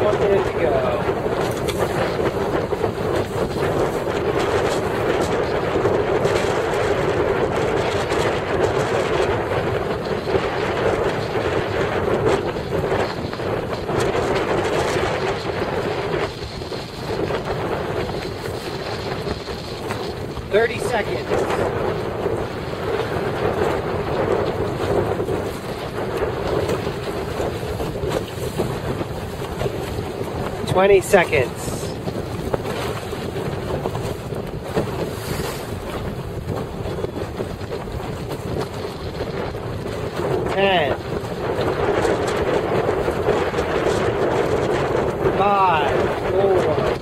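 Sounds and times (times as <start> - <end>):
choppy seawater washing: 0.0 - 47.0
wind buffeting microphone: 0.0 - 47.0
small waves splashing: 7.7 - 47.0.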